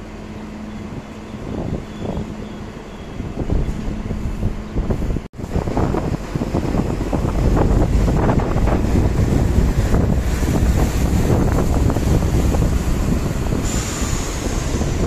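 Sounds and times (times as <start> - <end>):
train rumbling past: 0.0 - 15.0
wind buffeting microphone: 0.8 - 15.0.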